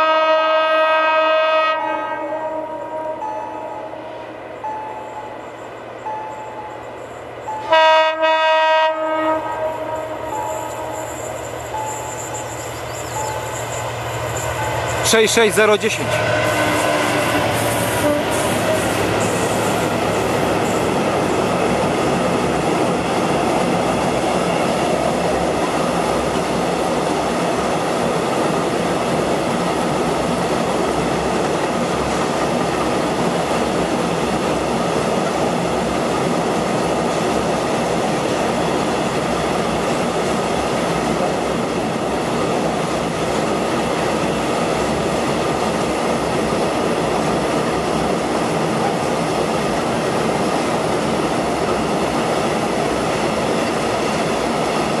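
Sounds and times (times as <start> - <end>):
freight train rolling past: 0.0 - 55.0
steel wheels on rails: 9.8 - 55.0.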